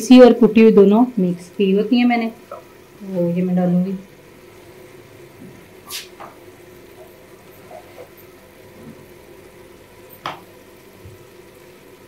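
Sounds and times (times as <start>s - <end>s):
masala sizzling and bubbling: 0.0s - 12.0s.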